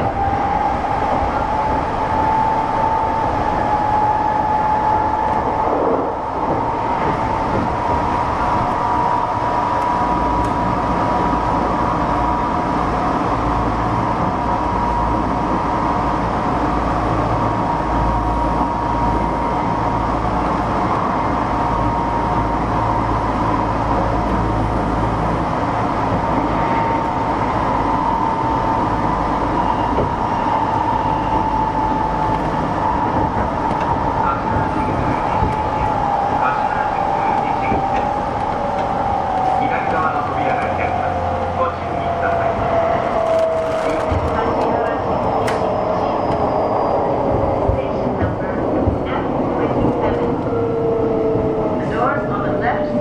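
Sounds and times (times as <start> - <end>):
train running rumble: 0.0 - 53.0.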